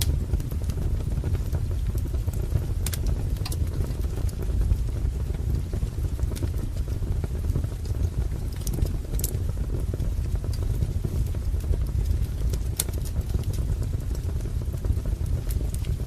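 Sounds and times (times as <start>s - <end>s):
burning logs crackling and popping: 0.0s - 16.0s
low rumble of flames: 0.0s - 16.0s.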